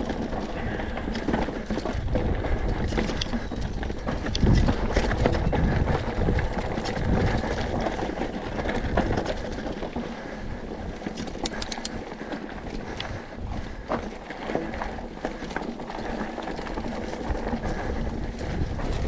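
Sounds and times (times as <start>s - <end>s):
bike clicks and rattles: 0.0s - 19.0s
bike tyres rolling over stones: 0.0s - 19.0s
wind rumble on microphone: 0.0s - 19.0s.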